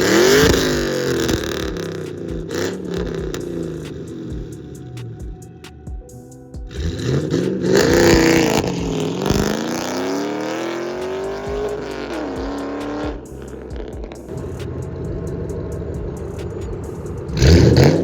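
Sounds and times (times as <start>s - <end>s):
car engine revving: 0.0s - 5.4s, 6.7s - 18.0s
music: 0.0s - 18.0s.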